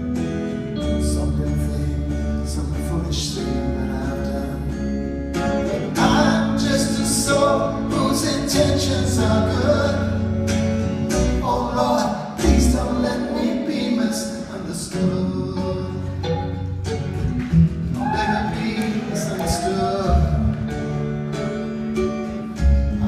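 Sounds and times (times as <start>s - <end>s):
live band playing: 0.0s - 23.0s
person singing: 0.4s - 17.1s, 17.9s - 22.1s.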